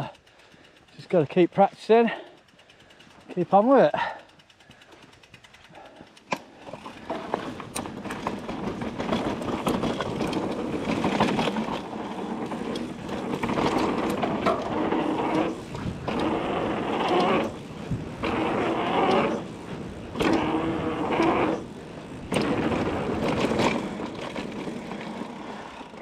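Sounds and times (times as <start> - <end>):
bike rattling: 0.0 - 26.0
bike tyres rolling on dirt: 0.0 - 26.0.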